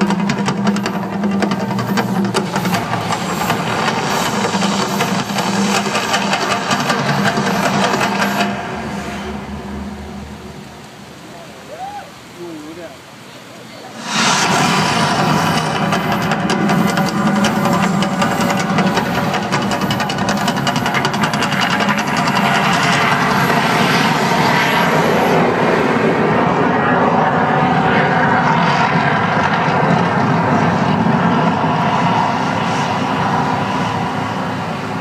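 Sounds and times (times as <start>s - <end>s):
eruption effect roar: 0.0s - 13.0s, 13.8s - 35.0s.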